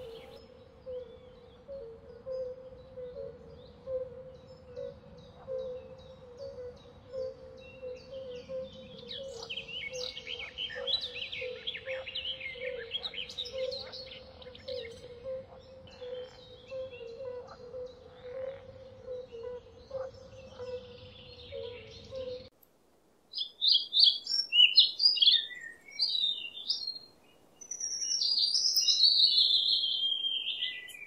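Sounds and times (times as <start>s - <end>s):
small birds chirping: 0.0s - 22.6s, 23.3s - 31.0s.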